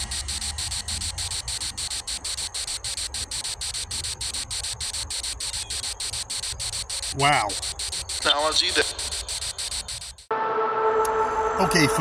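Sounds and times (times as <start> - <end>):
insects chirping: 0.0 - 10.3.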